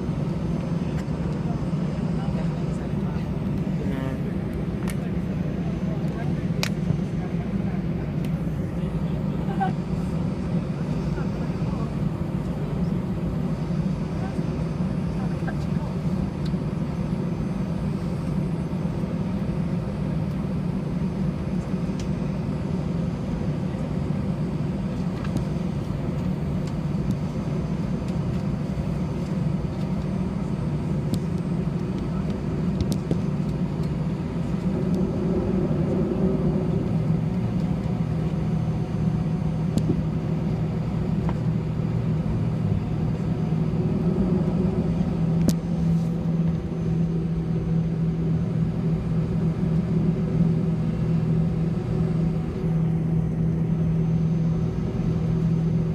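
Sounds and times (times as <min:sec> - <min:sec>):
airliner engines idling rumble: 0:00.0 - 0:55.9
steady hum: 0:00.0 - 0:55.9.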